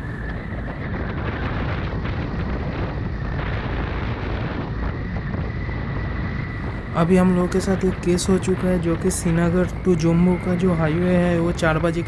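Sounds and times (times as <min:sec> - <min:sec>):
wind rush and rumble: 0:00.0 - 0:12.0.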